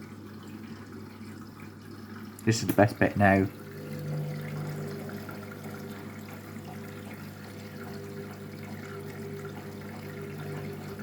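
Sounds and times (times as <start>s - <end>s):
washing machine hum: 0.0s - 11.0s
water running into drum: 0.0s - 11.0s.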